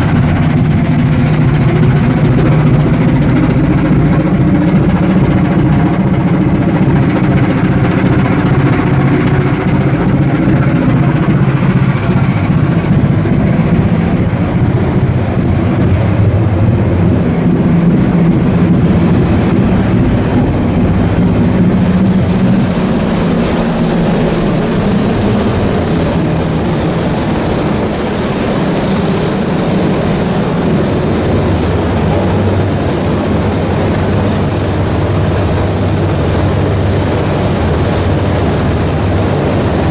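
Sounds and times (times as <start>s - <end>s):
ship diesel engine rumbling: 0.0s - 39.9s
thin high whine: 4.3s - 39.9s.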